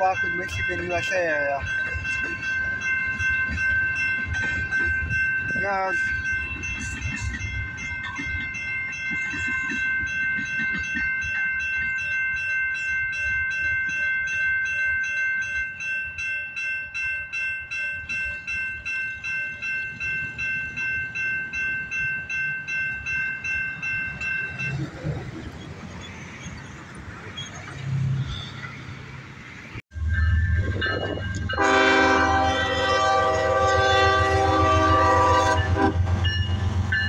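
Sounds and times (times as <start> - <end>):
freight train rumbling past: 0.0 - 14.0, 17.8 - 37.0
crossing warning bell ringing: 0.0 - 27.7, 30.0 - 37.0.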